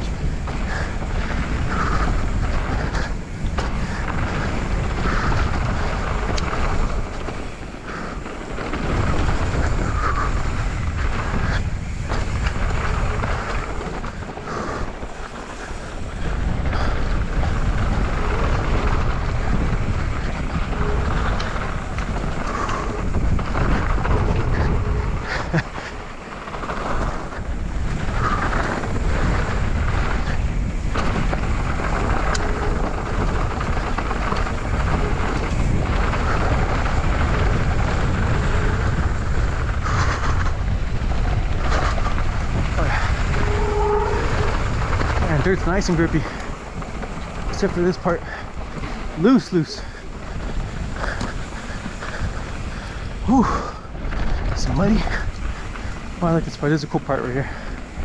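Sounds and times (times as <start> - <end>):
bike rattling over dirt: 0.0 - 58.0
wind rushing over microphone: 0.0 - 58.0.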